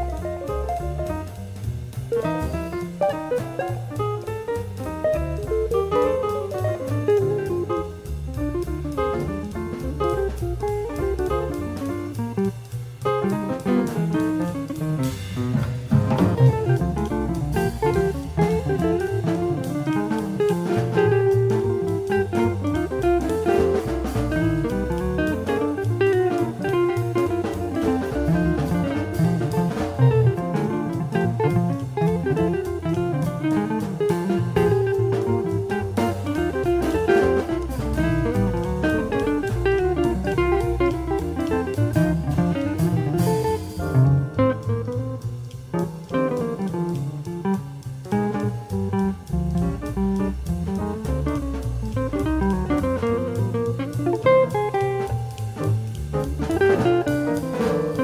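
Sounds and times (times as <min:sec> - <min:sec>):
double bass: 0:00.0 - 0:58.0
drum kit with cymbals: 0:00.0 - 0:58.0
jazz guitar melody: 0:00.0 - 0:58.0.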